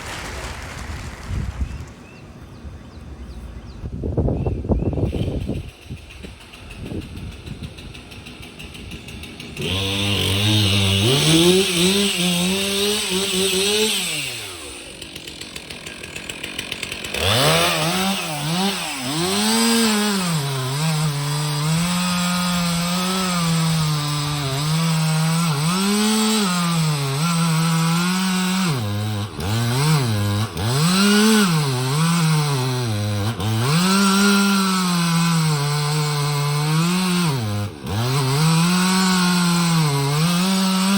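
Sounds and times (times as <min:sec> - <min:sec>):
chainsaw cutting wood: 0:05.0 - 0:40.9.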